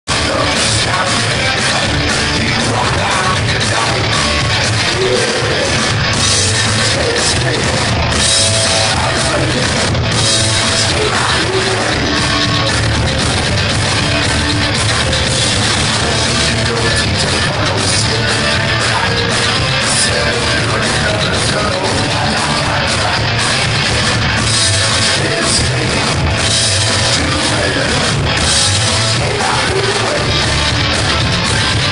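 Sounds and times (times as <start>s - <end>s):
drum kit: 0.1s - 31.9s
electric guitar: 0.1s - 31.9s
person singing: 0.1s - 31.9s
upright double bass: 0.1s - 31.9s.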